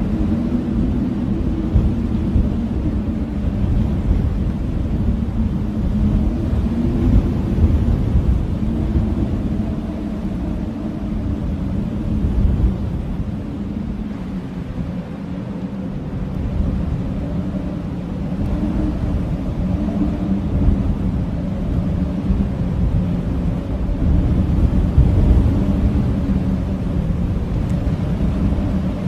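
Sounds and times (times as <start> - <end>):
blizzard wind howling: 0.0 - 29.0.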